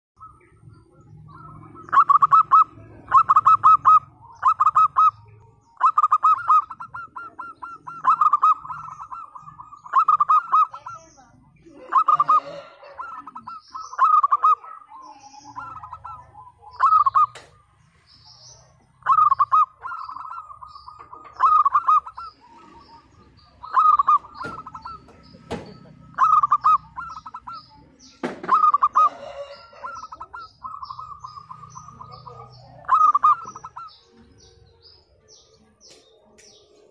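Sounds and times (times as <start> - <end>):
dove cooing: 0.2 - 35.1.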